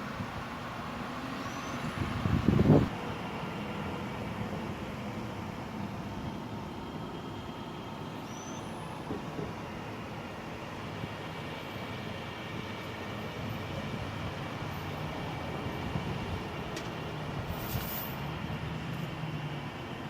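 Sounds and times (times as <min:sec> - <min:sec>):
engine rumble: 0:00.0 - 0:20.0.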